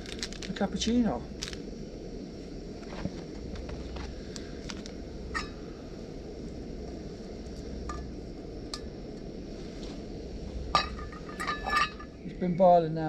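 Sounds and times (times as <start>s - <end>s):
gas burner rushing: 0.0s - 13.0s.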